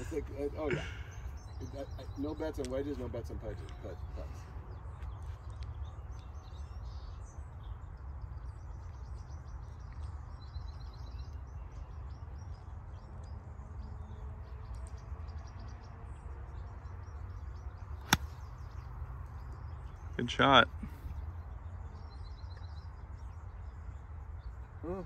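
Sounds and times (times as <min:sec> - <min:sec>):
birds chirping and trilling: 0:00.0 - 0:25.0.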